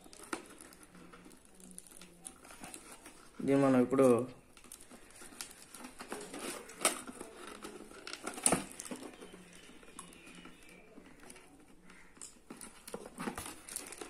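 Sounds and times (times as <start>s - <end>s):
cardboard rustling and scraping: 0.0s - 14.0s.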